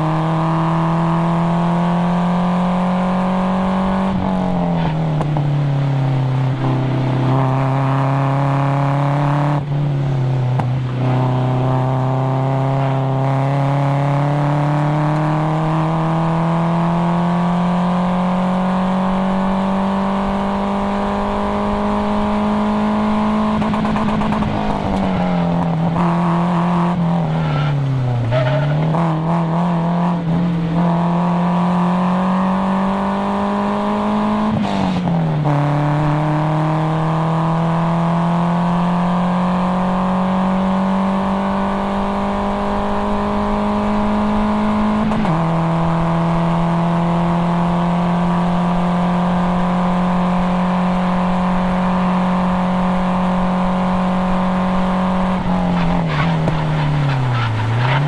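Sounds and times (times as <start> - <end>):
car engine revving under load: 0.0 - 58.0.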